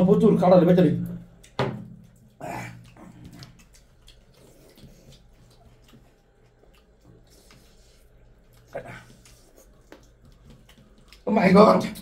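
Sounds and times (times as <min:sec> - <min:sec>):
chewing: 0:01.2 - 0:11.3.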